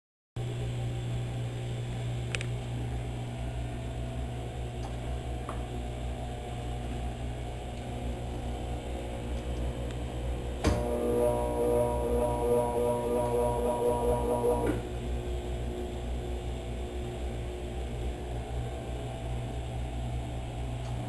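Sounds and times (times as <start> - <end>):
washing machine humming: 0.4 - 21.0.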